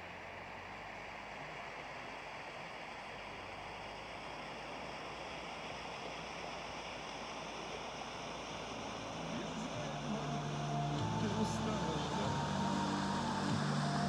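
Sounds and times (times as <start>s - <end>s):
low humming tones: 0.0s - 14.0s
floodwater rushing: 0.1s - 14.0s.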